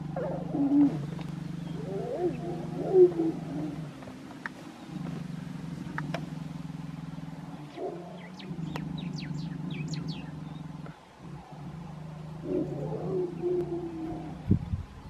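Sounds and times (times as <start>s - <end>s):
birds chirping: 0.0s - 15.0s
vehicle engine idling: 0.0s - 15.0s.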